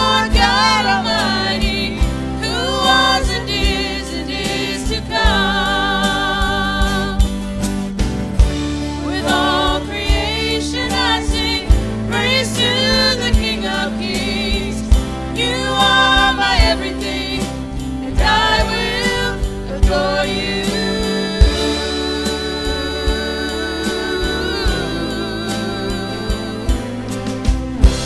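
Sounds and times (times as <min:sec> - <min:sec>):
person singing with vibrato: 0:00.0 - 0:07.4, 0:09.0 - 0:27.5
bass: 0:00.0 - 0:28.0
drums: 0:00.0 - 0:28.0.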